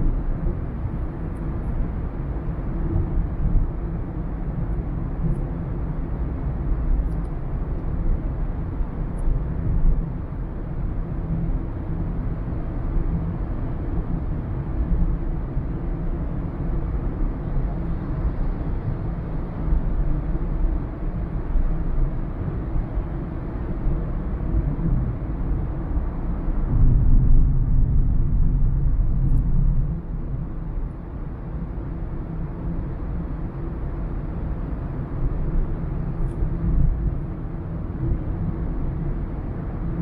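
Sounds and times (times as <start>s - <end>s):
car interior road rumble: 0.0s - 40.0s.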